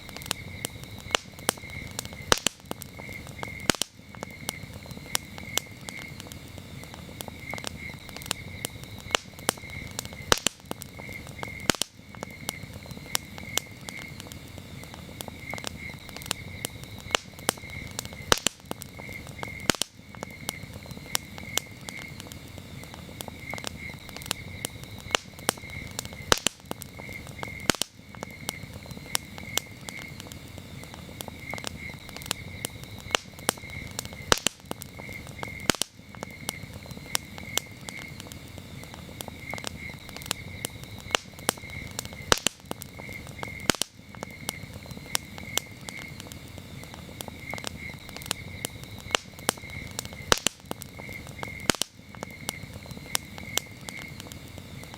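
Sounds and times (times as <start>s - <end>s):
campfire crackling and popping: 0.0s - 54.9s
crickets chirping: 0.0s - 54.9s.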